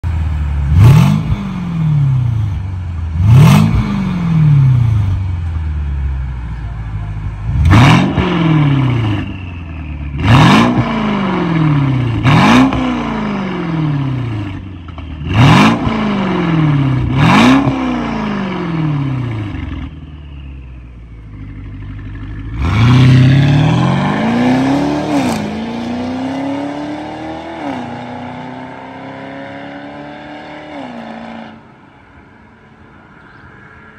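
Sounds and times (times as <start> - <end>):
car engine revving: 0.1 - 5.6, 7.1 - 31.7.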